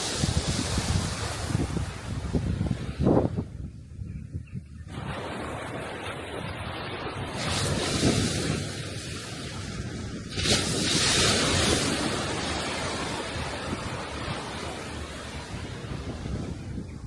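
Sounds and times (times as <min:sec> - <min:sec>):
wave breaking: 0:00.0 - 0:03.3, 0:04.9 - 0:16.6
wind rumble on microphone: 0:00.0 - 0:17.0.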